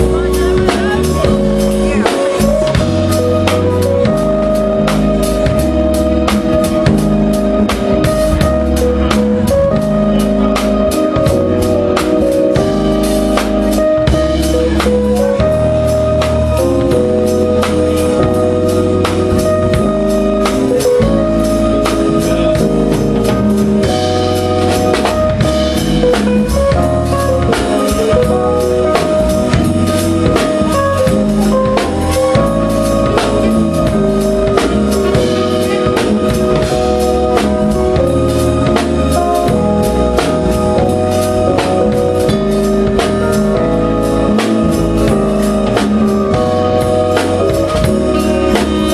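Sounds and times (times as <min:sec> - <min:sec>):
drum kit snare and rimshot hits: 0:00.0 - 0:48.9
electric bass: 0:00.0 - 0:48.9
organ-toned keyboards: 0:00.0 - 0:48.9.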